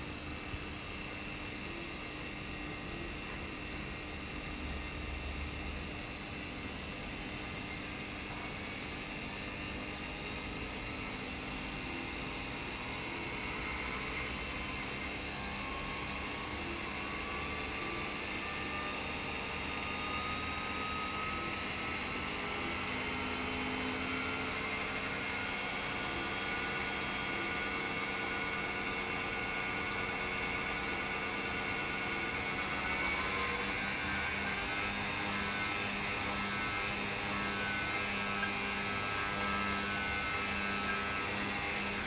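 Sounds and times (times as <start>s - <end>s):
mixer motor whining: 0.0s - 42.0s.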